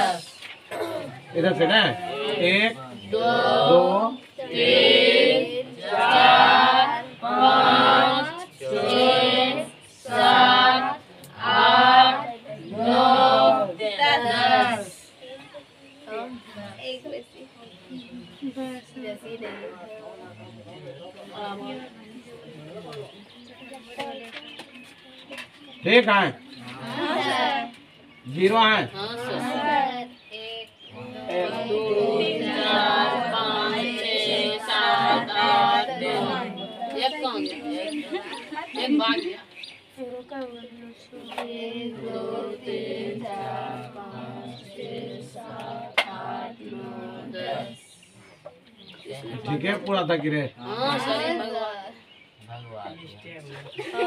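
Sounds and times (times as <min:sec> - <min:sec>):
voices chanting in chorus: 0:00.0 - 0:24.2, 0:25.8 - 0:53.0.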